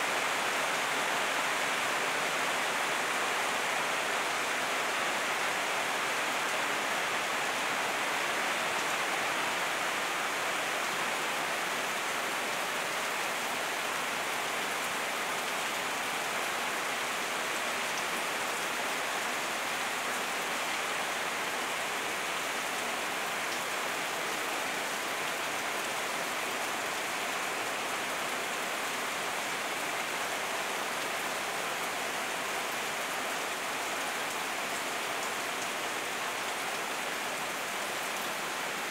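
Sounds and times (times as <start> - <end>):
heavy rain on leaves and grass: 0.0 - 38.9.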